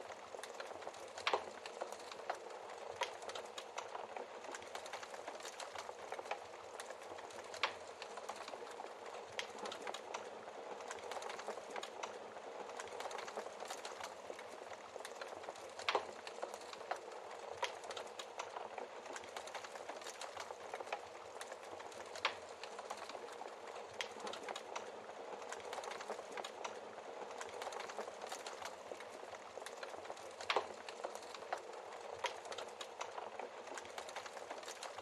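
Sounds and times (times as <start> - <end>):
log fire crackling: 0.0 - 35.0.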